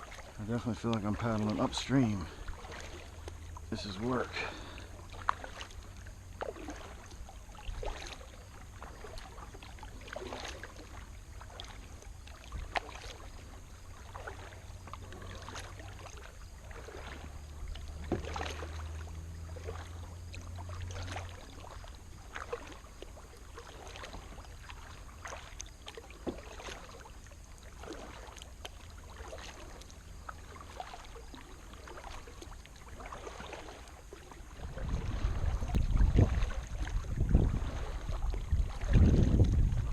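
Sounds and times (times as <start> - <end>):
low steady hum: 0.0 - 39.9
paddle splashing in water: 0.0 - 39.9.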